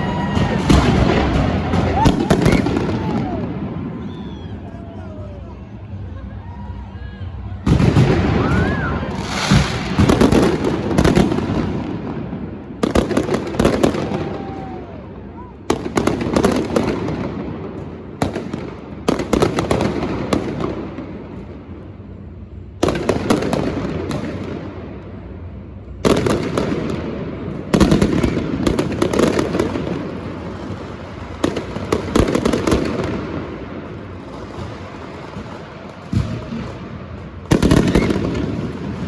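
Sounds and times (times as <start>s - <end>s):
fireworks crackling bangs: 0.0s - 4.8s, 7.6s - 39.0s
rumbling echo: 0.0s - 39.0s.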